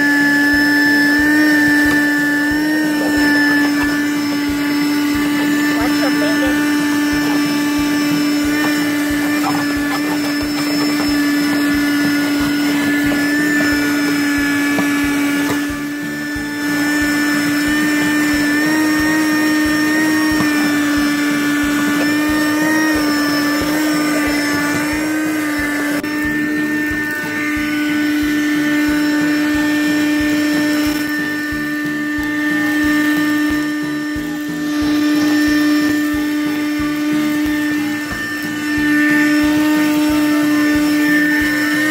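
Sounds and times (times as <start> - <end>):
car vacuum motor whine: 0.0 - 41.9.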